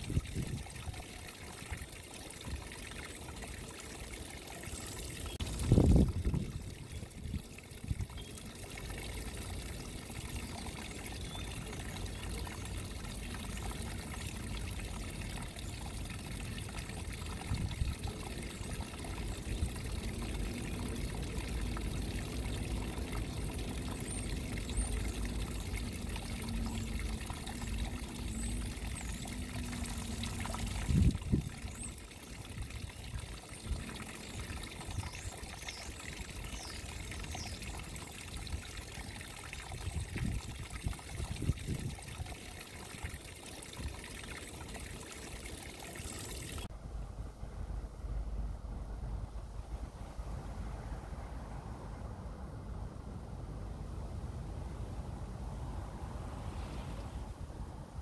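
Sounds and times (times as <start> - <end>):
water trickling and splashing: 0.0 - 46.7.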